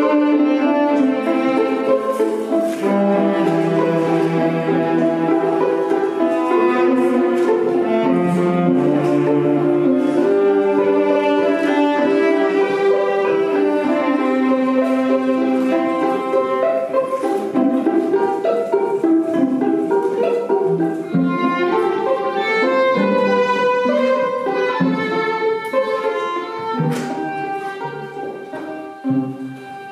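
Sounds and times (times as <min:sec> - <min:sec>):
violin and cello melody: 0:00.0 - 0:29.9.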